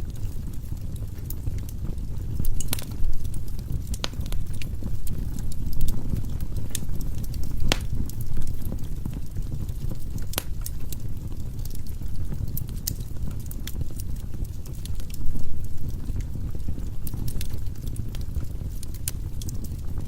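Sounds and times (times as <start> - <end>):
fire flames rumbling: 0.0 - 20.0
firewood crackling and popping: 0.0 - 20.0.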